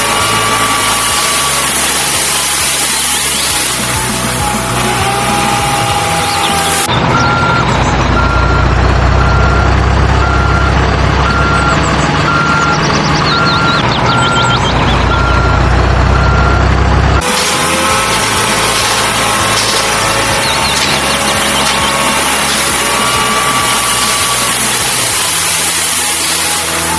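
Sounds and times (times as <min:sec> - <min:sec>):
high chirps: 0:00.0 - 0:16.6, 0:17.2 - 0:26.9
low engine rumble: 0:00.0 - 0:26.9
truck reversing alarm beeping: 0:00.0 - 0:26.9.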